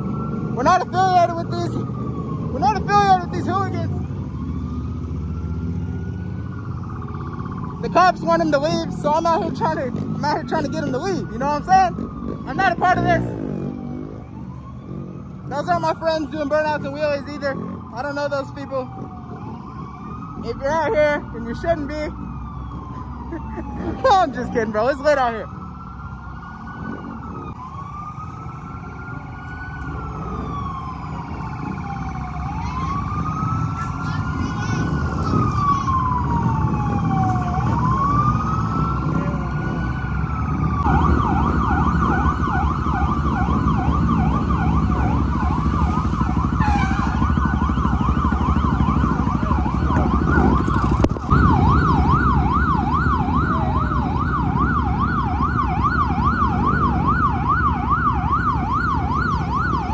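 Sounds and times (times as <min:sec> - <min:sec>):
idling engines rumbling: 0:00.0 - 0:59.9
police siren wailing: 0:00.0 - 0:59.9.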